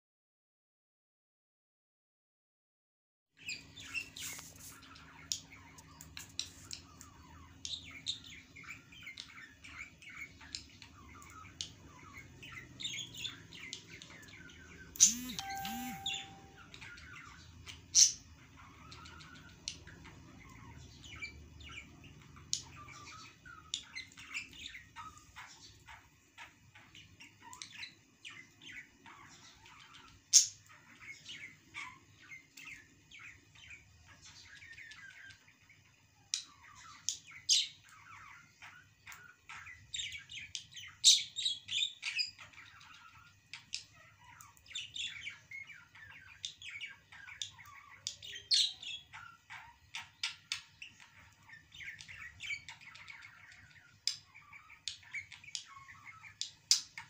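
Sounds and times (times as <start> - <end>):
small birds chirping: 3.4 - 57.0.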